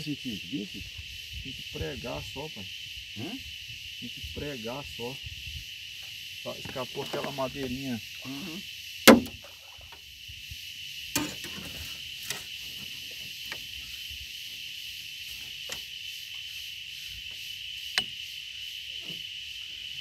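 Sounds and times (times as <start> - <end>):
insect drone: 0.0 - 20.0.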